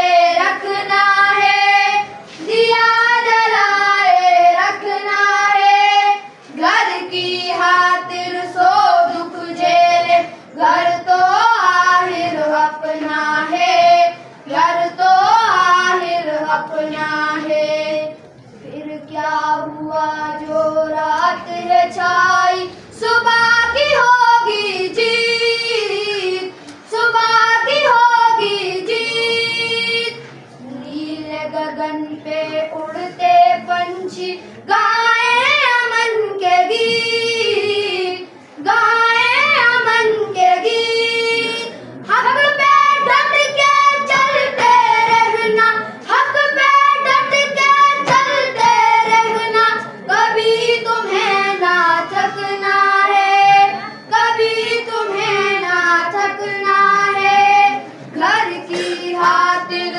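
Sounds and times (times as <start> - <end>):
boys singing together: 0.0 - 59.9.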